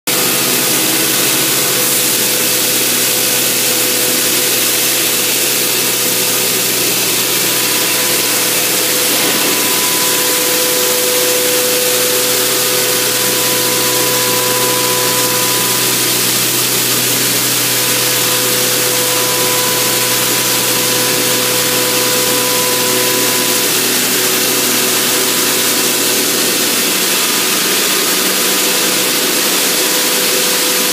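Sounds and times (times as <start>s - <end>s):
motor whine: 0.2s - 30.9s
blasting machine rushing hiss: 0.3s - 30.7s.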